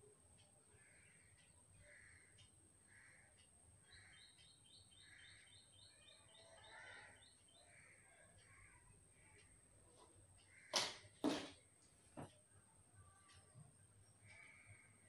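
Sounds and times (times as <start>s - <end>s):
faint bird calls: 0.7s - 11.1s, 13.0s - 15.0s
birds chirping: 0.7s - 15.0s.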